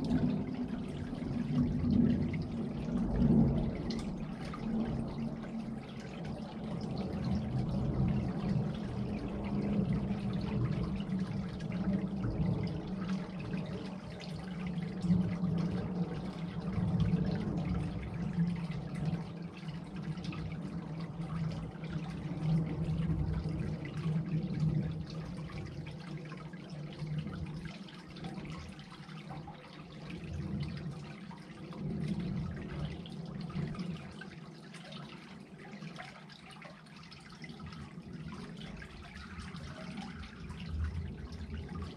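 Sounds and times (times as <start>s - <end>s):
water trickling through culvert: 0.0s - 41.9s.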